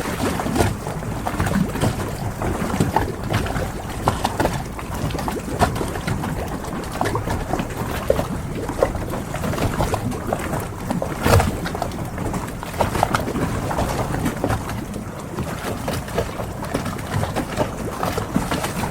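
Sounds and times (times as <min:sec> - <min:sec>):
water moving around boats: 0:00.0 - 0:18.9.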